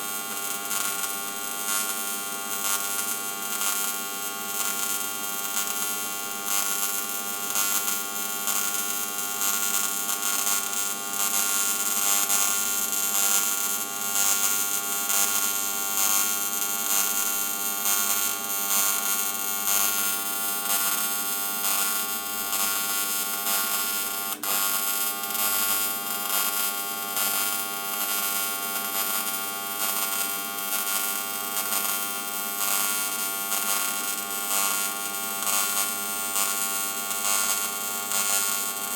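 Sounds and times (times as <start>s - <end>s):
welding arc buzzing: 0.0s - 38.9s.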